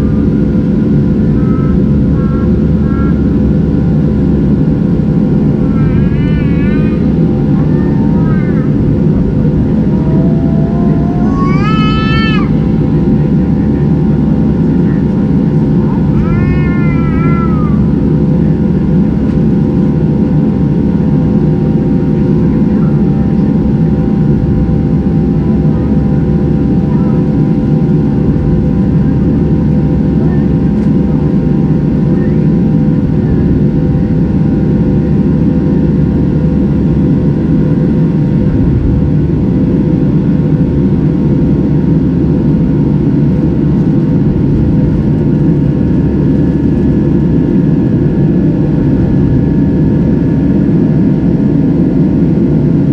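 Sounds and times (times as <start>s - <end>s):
airliner cabin engine roar: 0.0s - 52.9s
faint hum tones: 0.0s - 52.9s.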